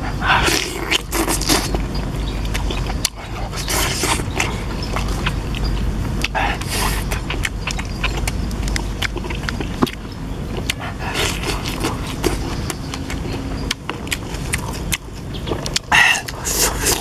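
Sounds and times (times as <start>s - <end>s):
chewing: 0.0s - 17.0s
steady low rumble: 0.0s - 17.0s
crunchy bite into vegetable: 0.2s - 17.0s
wet mouth clicks and smacks: 2.4s - 17.0s.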